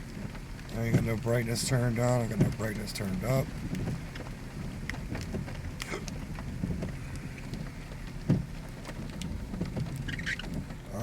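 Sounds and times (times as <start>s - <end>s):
rain falling: 0.0s - 11.0s
raindrop clicks: 0.0s - 11.0s
vehicle hum: 0.0s - 11.0s.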